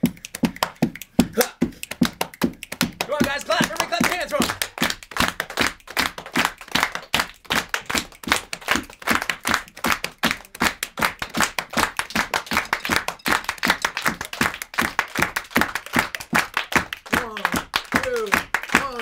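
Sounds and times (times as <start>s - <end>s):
hands clapping and slapping chest: 0.0s - 19.0s.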